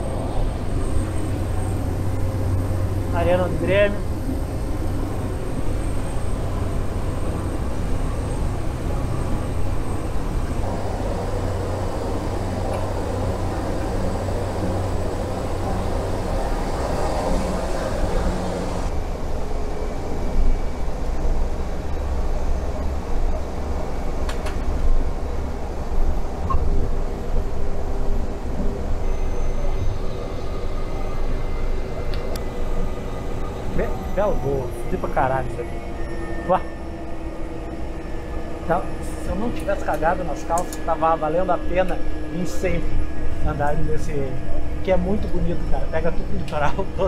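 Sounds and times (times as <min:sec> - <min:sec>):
propeller plane cabin drone: 0:00.0 - 0:47.0.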